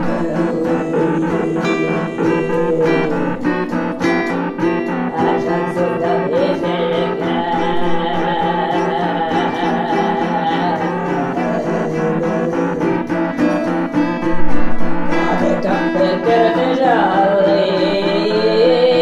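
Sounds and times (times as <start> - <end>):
balalaika strumming: 0.0 - 19.0
wavering held melody: 0.0 - 19.0.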